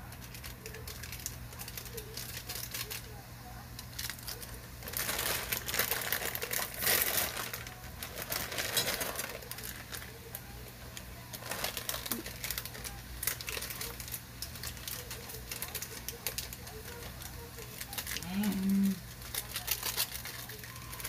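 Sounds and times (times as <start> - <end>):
plastic sachets crinkling: 0.0 - 21.0.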